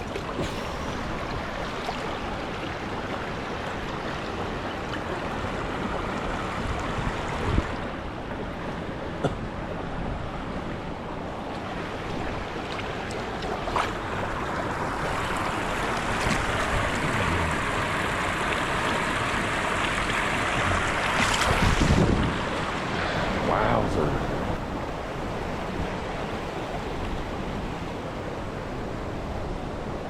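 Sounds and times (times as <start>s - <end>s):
creek water rushing over rapids: 0.0s - 30.0s.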